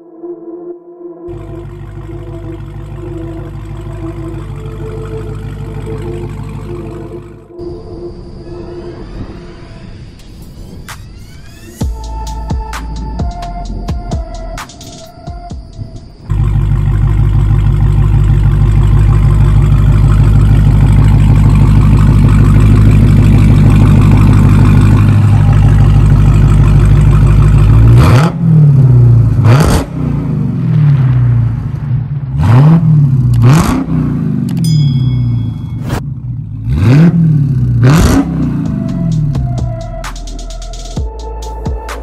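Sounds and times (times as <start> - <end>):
car engine idling and revving: 1.3 - 9.3, 10.1 - 42.0.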